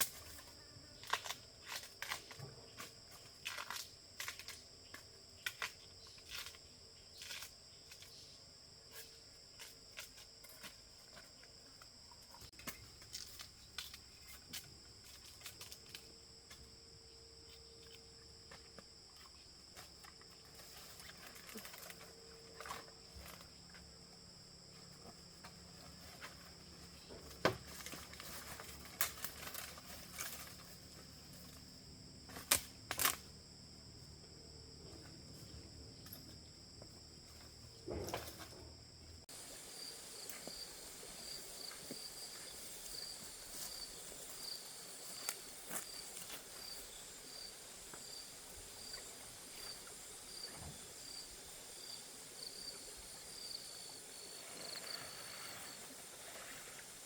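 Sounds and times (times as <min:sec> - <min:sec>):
insects chirring: 0:00.0 - 0:57.0
rustles: 0:00.0 - 0:57.0.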